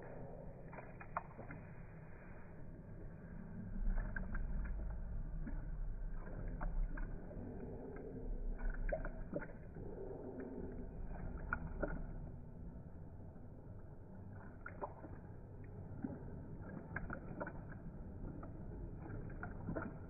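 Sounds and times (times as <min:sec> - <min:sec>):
dog lapping water from bowl: 0:00.0 - 0:20.0.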